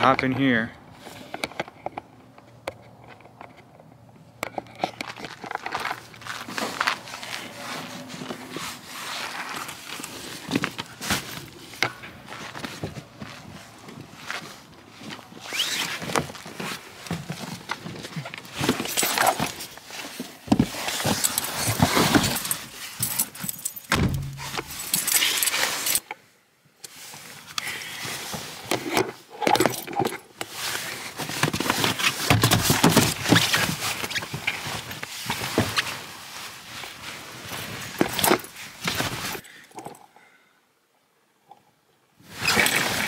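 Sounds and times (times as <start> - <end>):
rustling and clinking: 1.3 - 26.1, 28.2 - 40.1.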